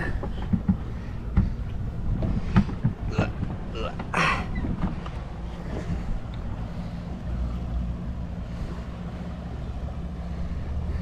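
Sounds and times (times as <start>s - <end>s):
water rumbling: 0.0s - 11.0s
wind buffeting microphone: 0.0s - 11.0s.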